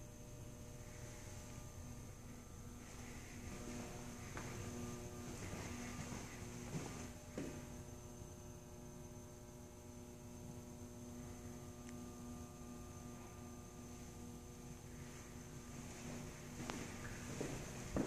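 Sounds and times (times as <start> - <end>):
electrical mains hum: 0.0 - 18.0
faint high-pitched whine: 0.0 - 18.0.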